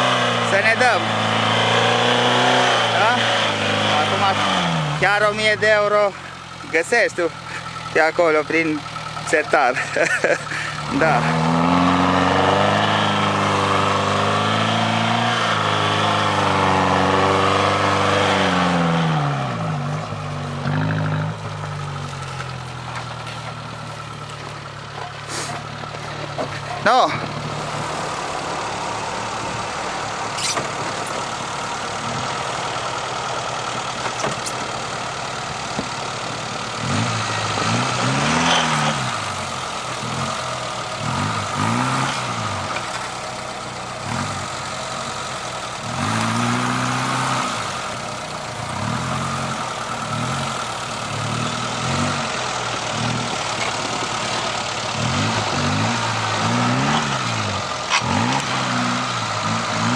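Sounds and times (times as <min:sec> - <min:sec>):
off-road engine revving under load: 0:00.0 - 0:59.9.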